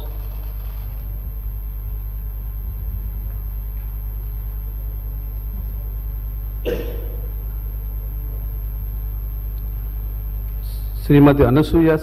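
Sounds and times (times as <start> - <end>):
sound system hum and rumble: 0.0 - 12.0.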